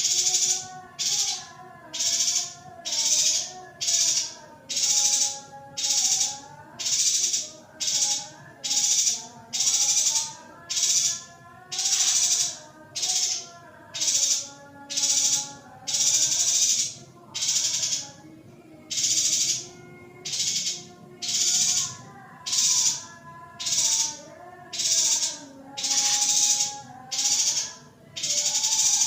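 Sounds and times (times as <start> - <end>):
faint wavering bird twitter: 0.0 - 18.2, 18.8 - 29.0.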